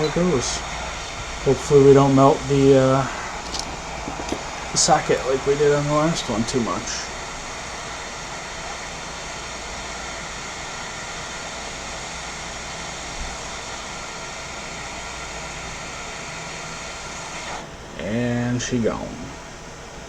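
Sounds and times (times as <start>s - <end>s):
hot air station hissing: 0.0s - 20.0s.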